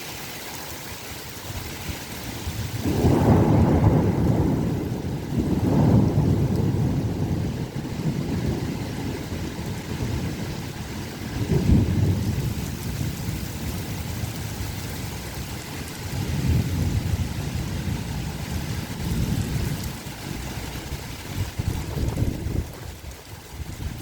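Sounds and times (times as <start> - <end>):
strong wind buffeting microphone: 1.4 - 24.0.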